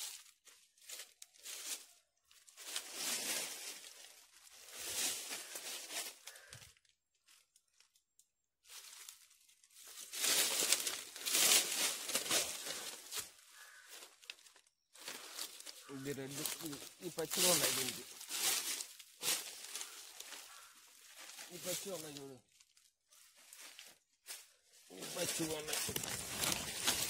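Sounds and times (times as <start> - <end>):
dry leaves rustling and crackling: 0.0 - 6.5, 8.6 - 27.0.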